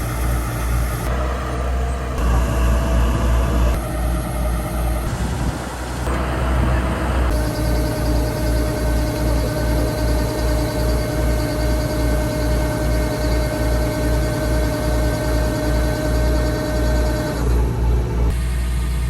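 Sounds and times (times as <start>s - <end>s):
combine harvester throbbing: 0.0s - 19.0s
steady machine whine: 0.0s - 19.0s.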